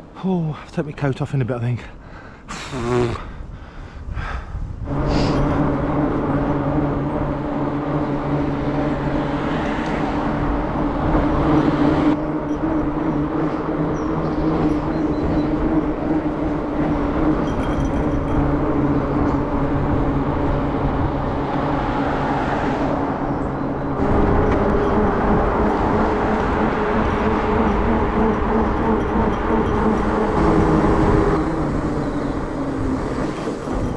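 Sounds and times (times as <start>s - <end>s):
fat tyres humming on tarmac: 2.4s - 33.9s.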